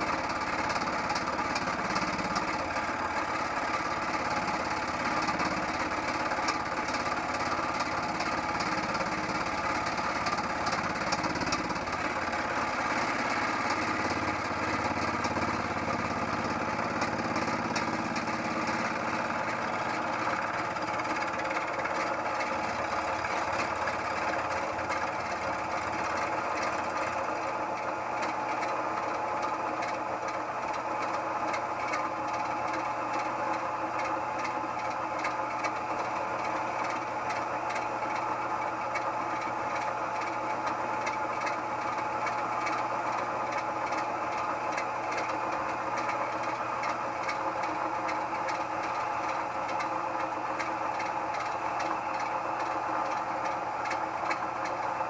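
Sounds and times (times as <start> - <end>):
machine motor and gear tone: 0.0 - 55.0.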